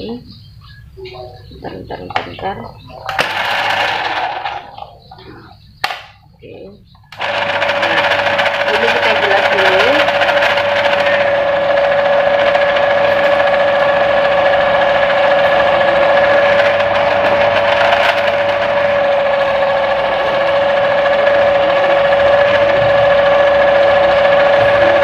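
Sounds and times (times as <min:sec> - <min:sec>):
noodle machine motor humming: 0:00.0 - 0:25.0.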